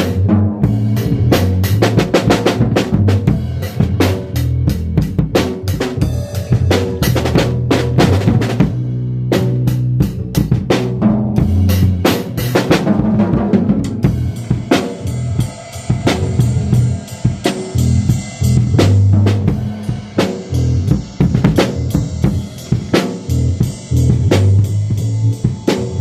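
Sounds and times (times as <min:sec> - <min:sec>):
bass line: 0:00.0 - 0:26.0
drum kit beat: 0:00.0 - 0:26.0.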